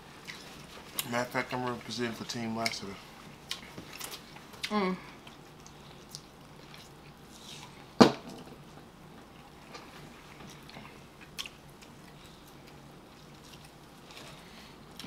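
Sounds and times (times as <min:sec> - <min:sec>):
chewing: 0:00.2 - 0:07.9, 0:09.2 - 0:15.0.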